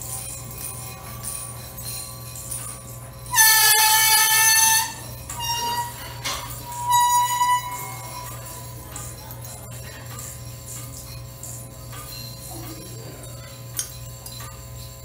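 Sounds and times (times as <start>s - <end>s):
held pitched tones: 0.0s - 13.4s
steady low hum: 0.0s - 15.0s.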